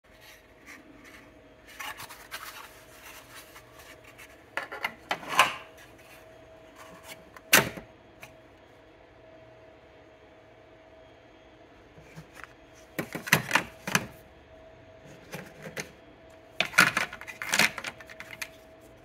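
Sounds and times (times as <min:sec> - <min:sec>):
faint steady hum: 0:00.1 - 0:19.0.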